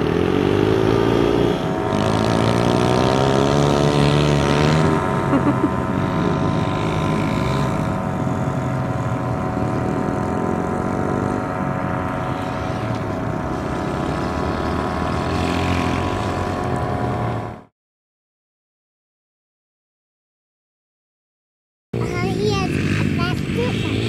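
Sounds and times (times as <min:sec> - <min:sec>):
dirt bike engines droning: 0:00.0 - 0:17.7, 0:22.0 - 0:24.0.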